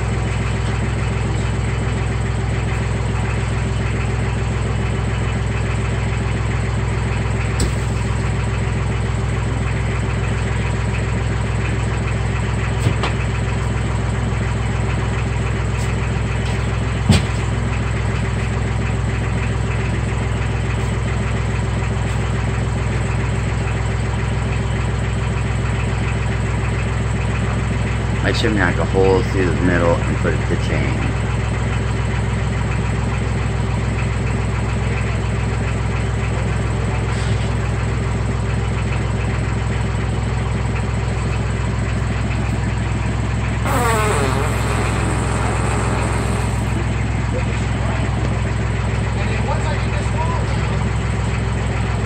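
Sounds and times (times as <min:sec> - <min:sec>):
tractor engine idling: 0:00.0 - 0:43.6, 0:44.4 - 0:52.0.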